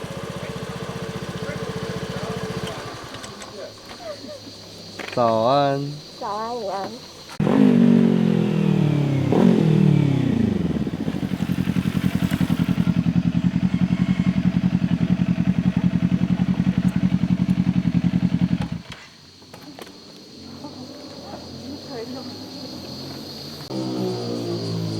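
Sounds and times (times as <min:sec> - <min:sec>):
motorcycle engine passing: 0:00.0 - 0:05.9, 0:07.1 - 0:19.2, 0:20.4 - 0:24.9.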